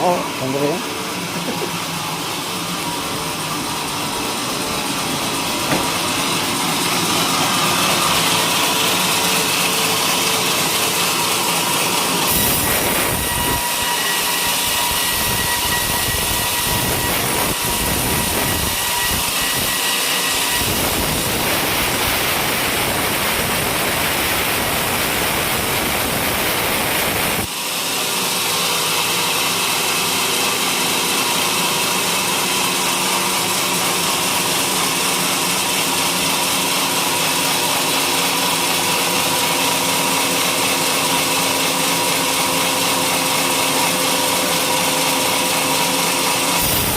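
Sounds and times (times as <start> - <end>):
sawmill sawing timber: 0.0 - 46.9.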